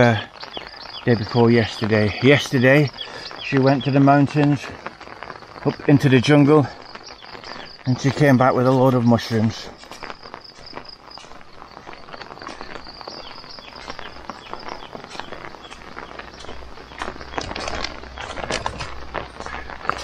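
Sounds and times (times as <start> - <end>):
footsteps on wet grass: 0.0 - 20.0.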